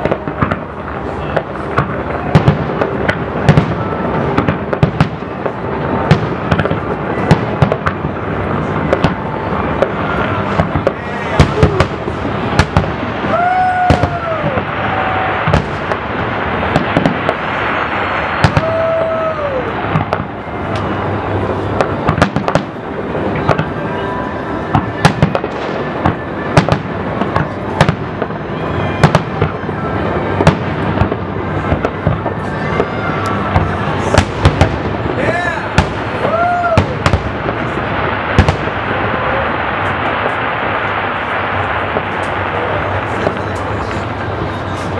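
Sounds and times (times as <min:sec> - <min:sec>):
continuous din: 0:00.0 - 0:44.9.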